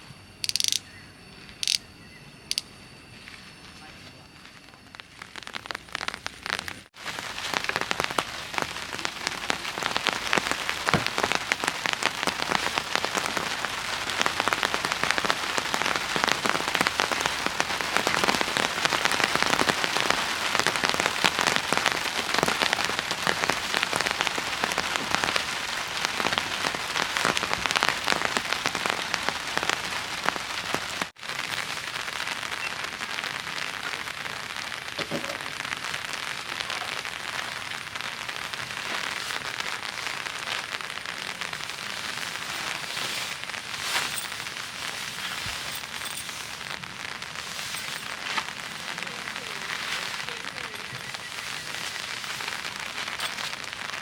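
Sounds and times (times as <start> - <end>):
steady rain falling: 4.0 - 54.0.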